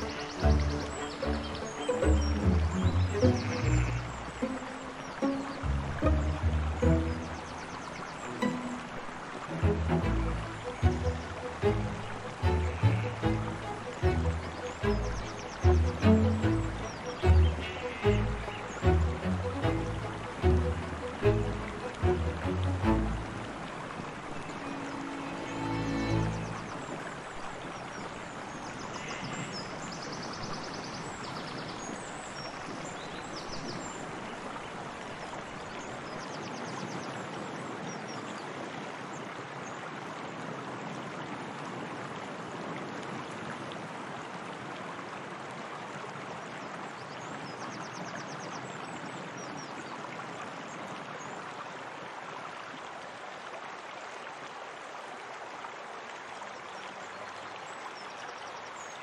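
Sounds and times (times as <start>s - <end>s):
water flowing: 0.0s - 47.8s.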